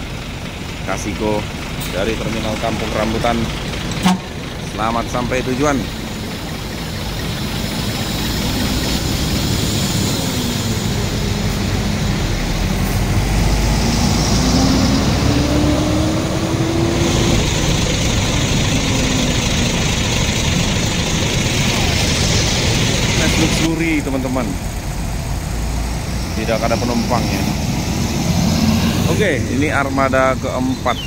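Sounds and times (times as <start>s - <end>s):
coach diesel engine passing: 0.0s - 31.0s.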